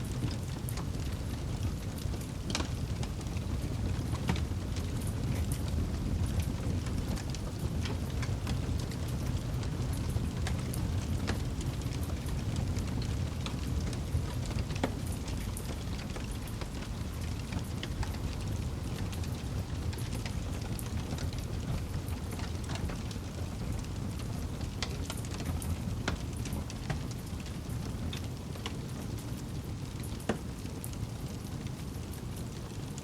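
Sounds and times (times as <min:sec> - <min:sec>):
campfire burning: 0:00.0 - 0:33.0
wood crackling and popping: 0:00.0 - 0:33.0.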